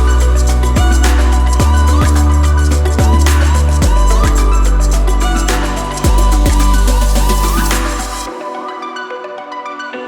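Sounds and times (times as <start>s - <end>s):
electronic music with heavy bass: 0.0s - 9.1s.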